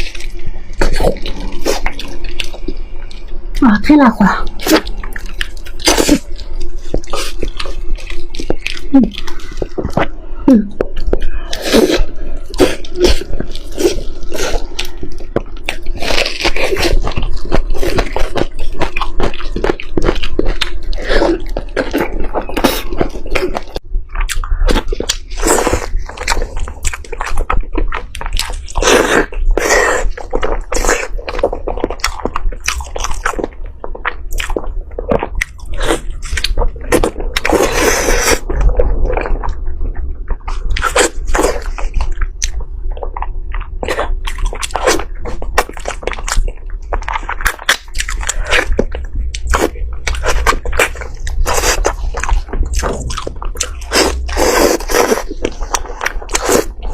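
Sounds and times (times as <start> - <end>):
chewing food: 0.0 - 56.9.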